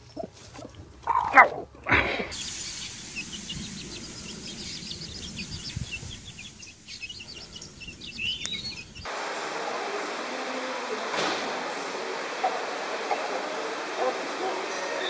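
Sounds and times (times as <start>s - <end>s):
chicks peeping: 0.0s - 9.2s, 11.1s - 15.0s.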